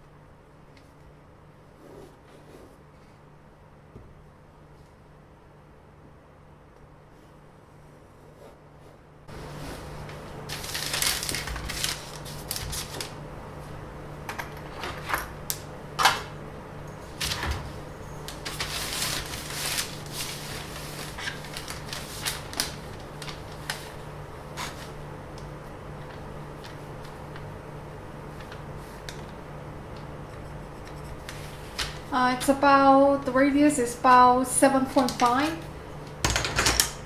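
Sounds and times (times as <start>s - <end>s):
steady low hum: 0.0s - 36.3s.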